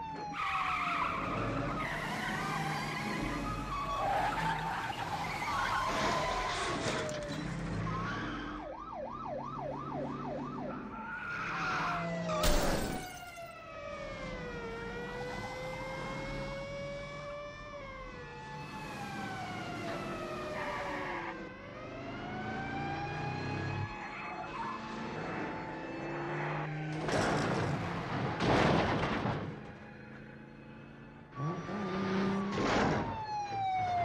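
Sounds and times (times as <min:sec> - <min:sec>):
police sirens yelping and wailing: 0:00.0 - 0:34.0
car engines running: 0:00.2 - 0:34.0.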